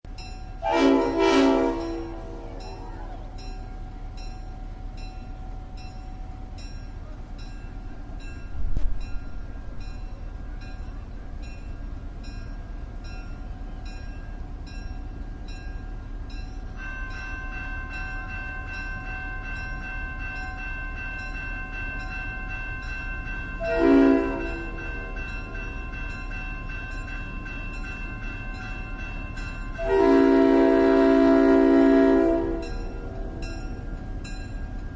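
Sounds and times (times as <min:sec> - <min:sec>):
diesel locomotive running: 0:00.1 - 0:34.9
railroad crossing bell: 0:00.1 - 0:34.9.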